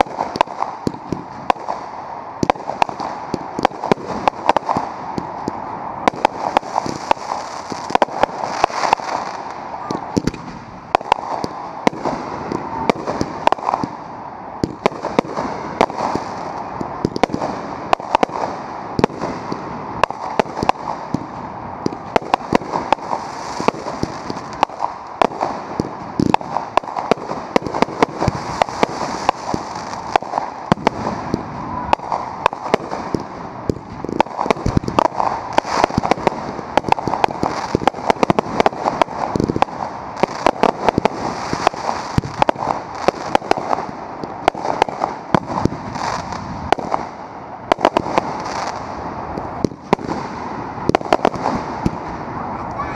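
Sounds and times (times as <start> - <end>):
fireworks bangs and pops: 0.0 - 52.9
fireworks crackle and hiss: 0.0 - 52.9.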